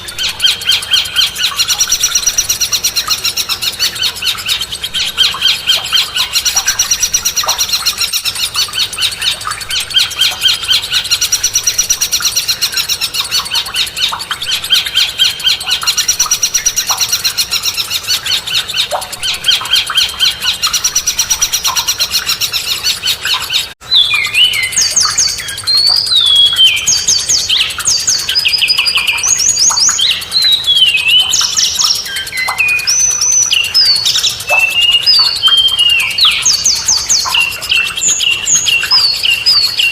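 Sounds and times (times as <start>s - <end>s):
songbird chattering trill: 0.0s - 39.9s.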